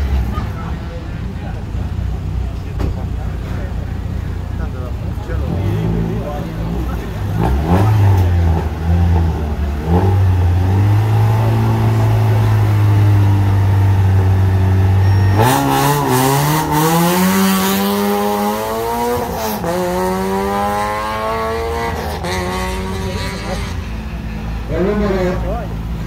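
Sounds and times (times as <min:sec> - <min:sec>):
rally car engine revving and accelerating: 0:03.4 - 0:26.0.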